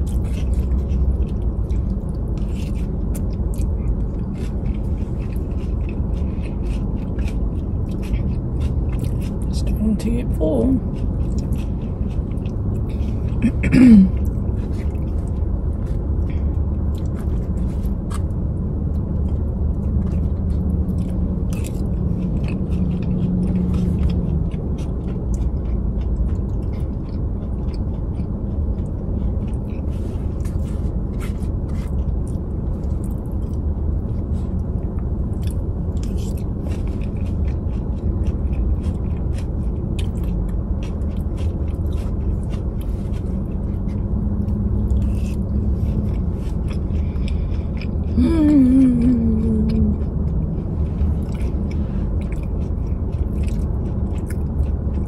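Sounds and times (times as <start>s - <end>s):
low rumble in car cabin: 0.0s - 55.0s
person chewing: 0.0s - 55.0s.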